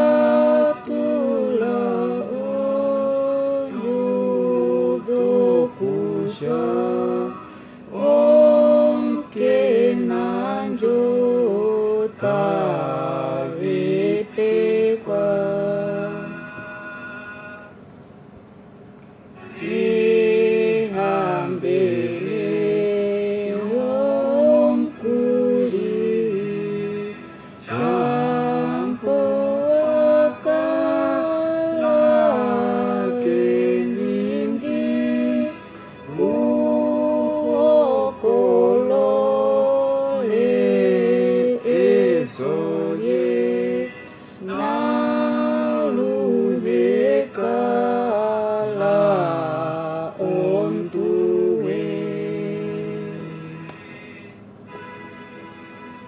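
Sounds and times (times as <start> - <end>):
man and woman singing unaccompanied: 0.0 - 16.5, 19.5 - 53.9.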